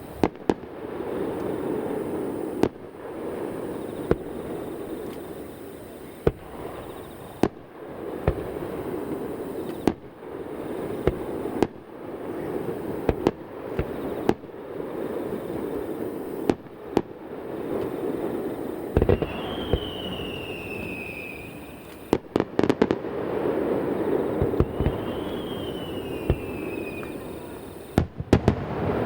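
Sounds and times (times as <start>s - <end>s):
firework shells bursting: 0.0s - 29.0s.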